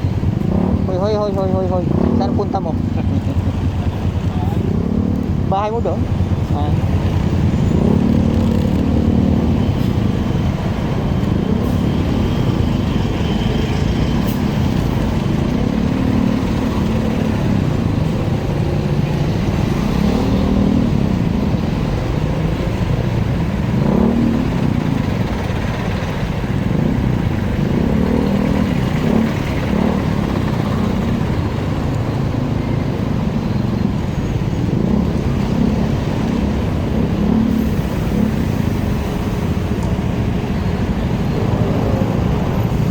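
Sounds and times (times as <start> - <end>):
motorcycle engine revving: 0.0 - 42.8.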